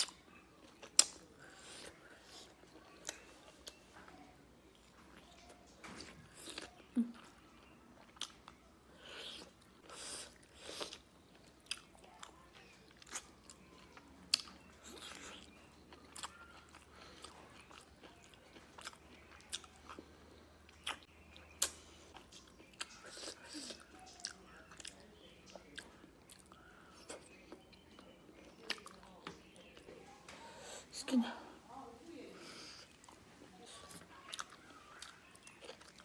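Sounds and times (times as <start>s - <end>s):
chewing and biting food: 0.0s - 30.0s, 32.8s - 36.0s.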